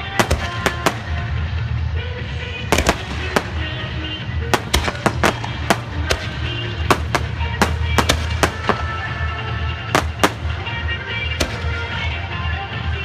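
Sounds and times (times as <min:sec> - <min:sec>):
fireworks bangs: 0:00.0 - 0:01.6, 0:02.6 - 0:12.2.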